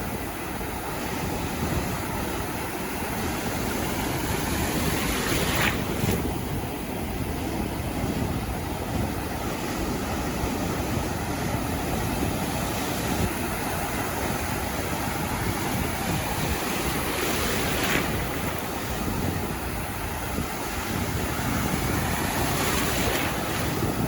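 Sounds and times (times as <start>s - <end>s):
waves washing on a beach: 0.0s - 24.0s.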